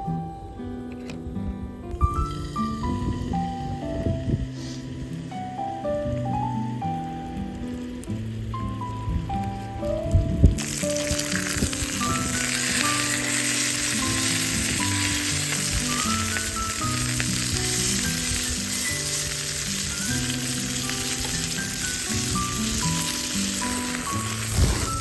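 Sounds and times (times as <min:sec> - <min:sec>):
food sizzling in a pan: 0:02.0 - 0:25.0.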